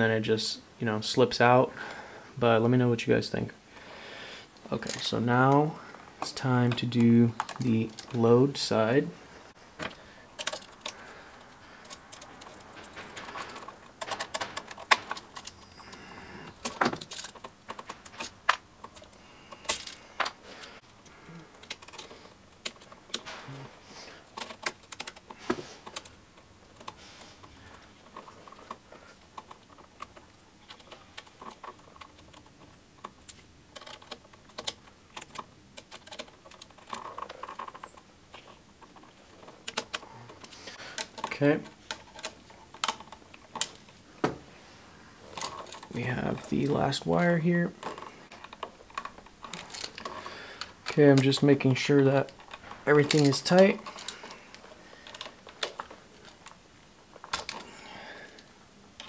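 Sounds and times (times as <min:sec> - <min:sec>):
wires clicking and rattling: 0:04.4 - 0:59.0.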